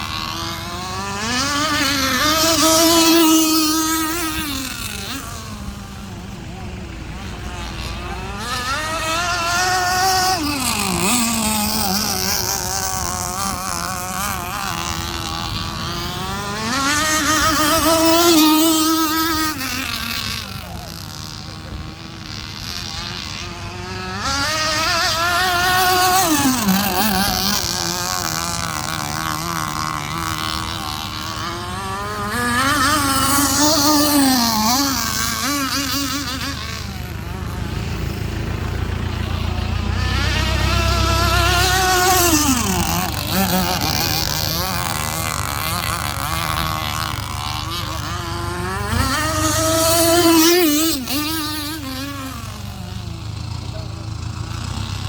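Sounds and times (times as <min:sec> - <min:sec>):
model boat engine whining: 0:00.0 - 0:55.0.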